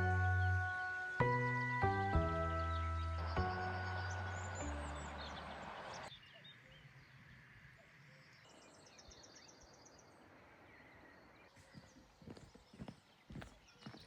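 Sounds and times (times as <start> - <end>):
faint farmyard ambience: 0.0 - 14.0.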